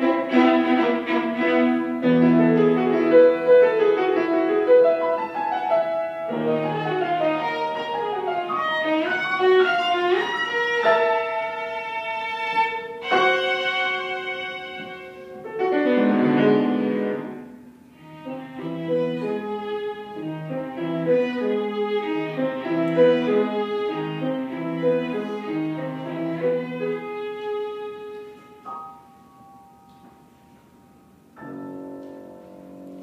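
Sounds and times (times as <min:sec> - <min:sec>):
low piano notes: 0:00.0 - 0:33.0.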